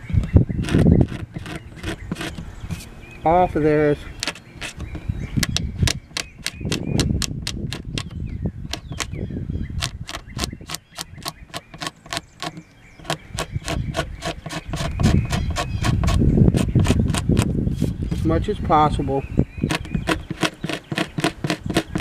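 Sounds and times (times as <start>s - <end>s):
hand scraper scratching wood: 0.0s - 2.9s, 4.1s - 8.1s, 8.7s - 9.2s, 9.8s - 18.3s, 19.6s - 22.0s.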